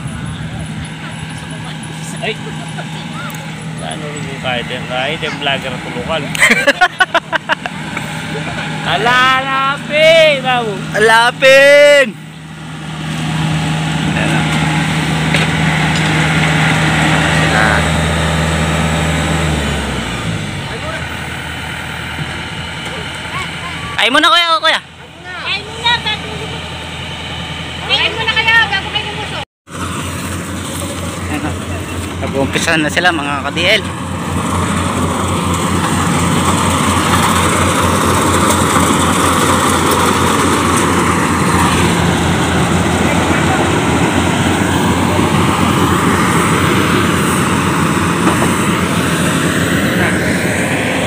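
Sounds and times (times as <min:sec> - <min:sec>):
combine harvester diesel engine: 0:00.0 - 0:51.0.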